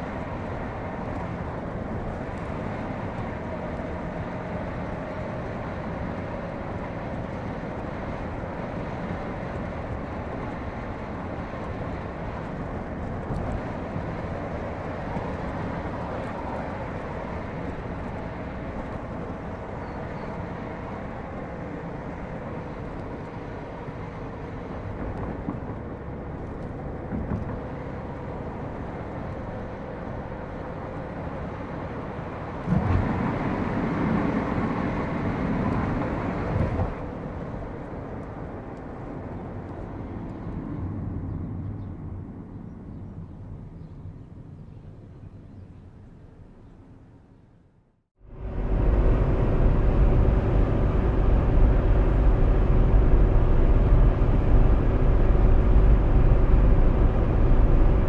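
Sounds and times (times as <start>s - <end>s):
car driving at speed: 0.0s - 43.8s, 48.2s - 58.0s.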